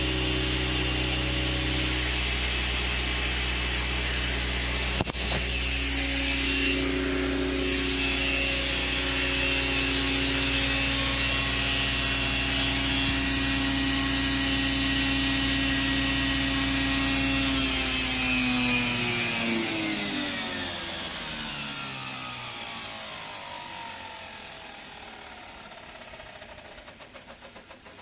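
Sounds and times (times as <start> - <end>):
model helicopter motor whine: 0.0 - 28.0.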